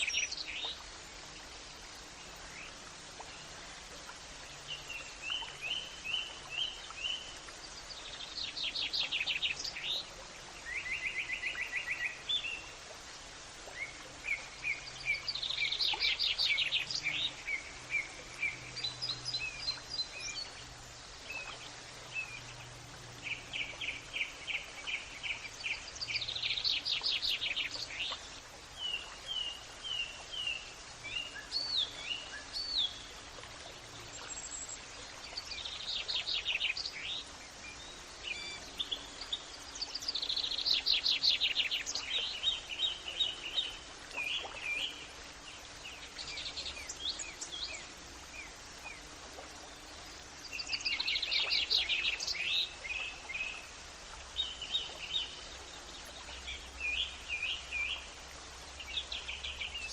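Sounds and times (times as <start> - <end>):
background hiss: 0.0 - 59.9
songbirds trilling and chirping: 0.0 - 59.9.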